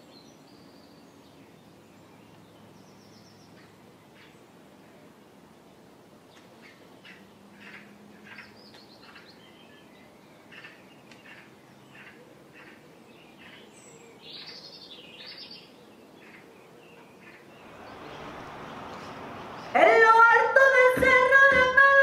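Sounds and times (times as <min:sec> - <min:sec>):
small birds chirping: 0:00.0 - 0:04.6, 0:06.2 - 0:20.1.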